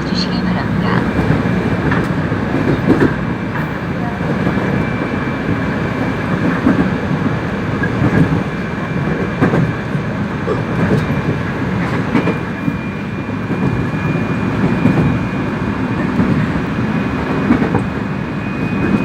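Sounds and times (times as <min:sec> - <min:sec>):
rail joint clicks: 0:00.0 - 0:04.8, 0:05.5 - 0:12.8, 0:13.4 - 0:18.0
train wheels rumbling on rail: 0:00.0 - 0:19.0.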